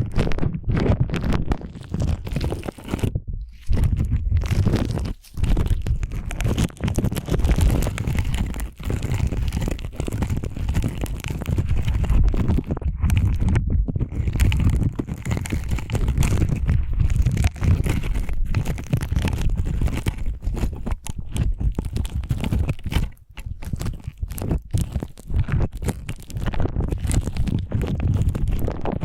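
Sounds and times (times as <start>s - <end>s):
slime squelching by hand: 0.0s - 29.0s
small clicks and pops: 0.0s - 29.0s.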